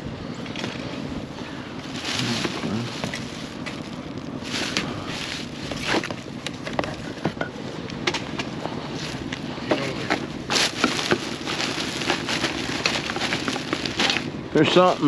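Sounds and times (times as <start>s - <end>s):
steady low rumble: 0.0s - 15.0s
rummaging clicks knocks and rustles: 1.8s - 15.0s.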